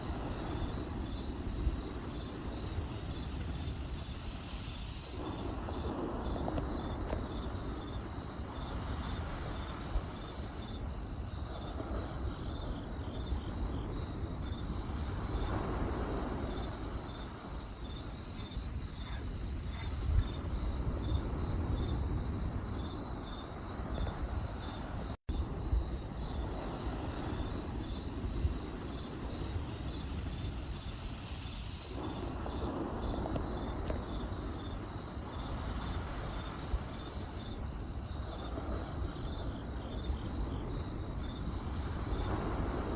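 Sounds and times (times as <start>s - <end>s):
campfire rumble: 0.0s - 42.9s
crickets chirping: 0.0s - 42.9s
fire crackle: 0.0s - 42.9s.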